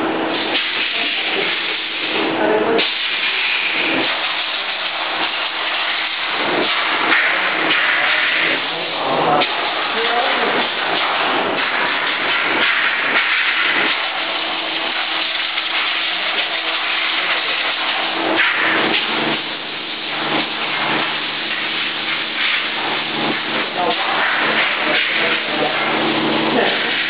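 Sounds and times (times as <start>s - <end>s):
low machine hum: 0.0s - 27.0s
steady hiss: 0.0s - 27.0s.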